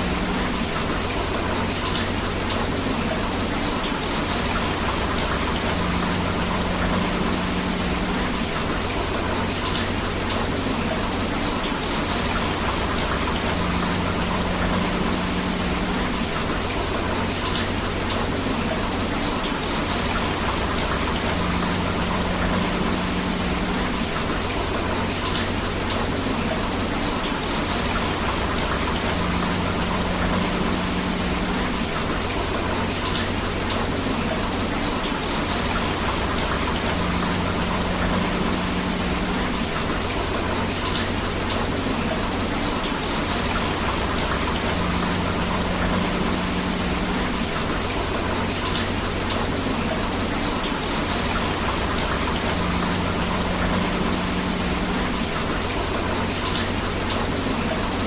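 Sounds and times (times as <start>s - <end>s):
rain: 0.0s - 58.0s
river water flowing: 0.0s - 58.0s.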